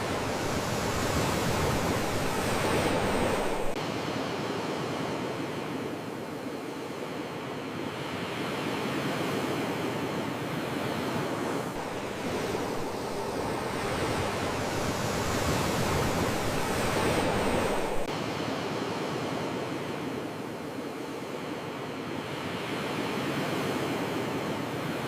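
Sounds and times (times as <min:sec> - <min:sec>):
sea waves washing on shore: 0:00.0 - 0:25.0.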